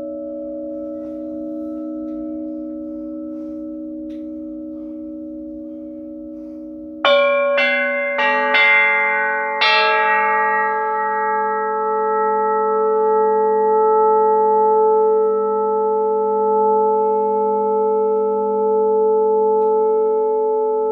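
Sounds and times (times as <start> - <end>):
steady ringing tone: 0.0 - 20.9.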